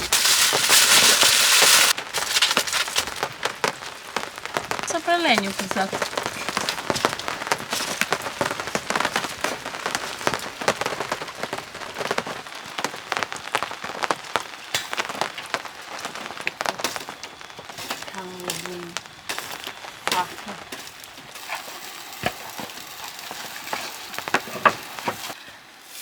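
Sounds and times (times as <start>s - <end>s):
rain patter: 0.0s - 26.0s.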